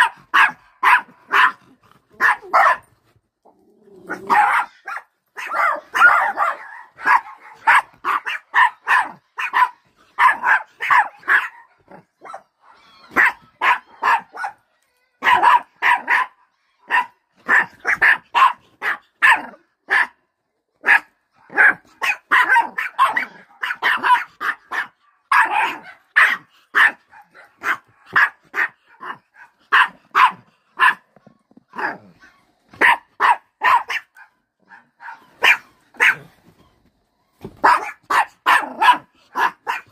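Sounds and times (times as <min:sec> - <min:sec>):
small dogs barking: 0:00.0 - 0:03.0, 0:04.0 - 0:20.2, 0:20.8 - 0:36.6, 0:37.4 - 0:39.9.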